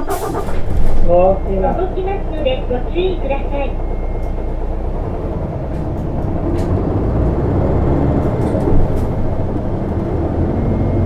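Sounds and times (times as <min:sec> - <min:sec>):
bus diesel engine rumble: 0:00.0 - 0:11.0.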